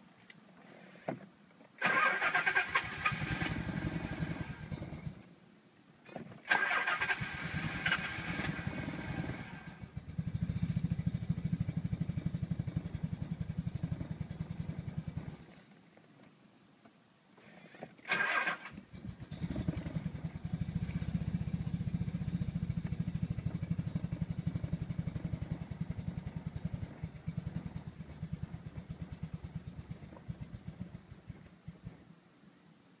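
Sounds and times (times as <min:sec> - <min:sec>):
engine cranking without starting: 0:01.8 - 0:05.2, 0:06.4 - 0:15.5, 0:18.0 - 0:32.0.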